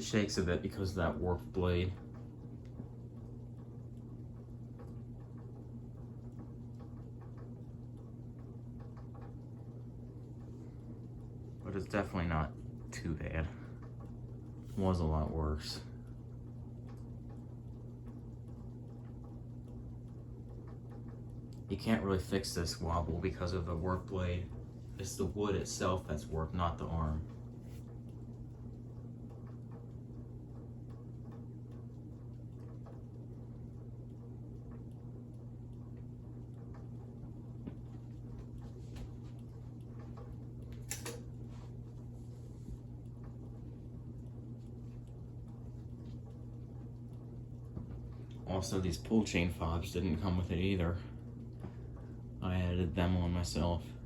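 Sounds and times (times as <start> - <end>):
ceiling fan motor hum: 0.0 - 54.0
light ticking of fan: 0.0 - 54.0.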